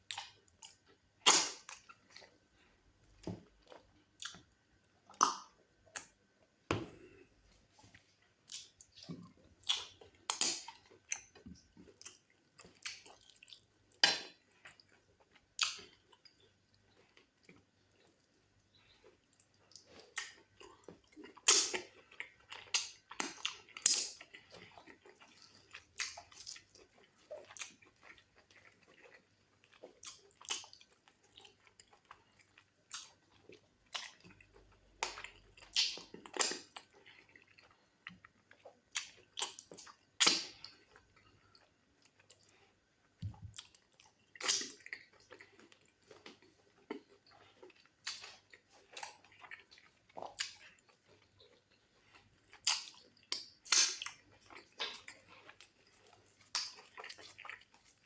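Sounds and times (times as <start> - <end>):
wet chewing and lip smacks: 0.0 - 2.4, 3.5 - 6.2, 7.9 - 58.0.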